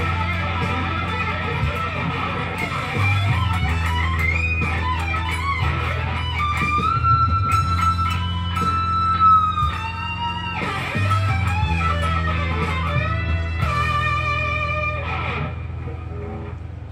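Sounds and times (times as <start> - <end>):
backing track with bass line: 0.0 - 16.9
electric guitar lead: 0.0 - 16.9.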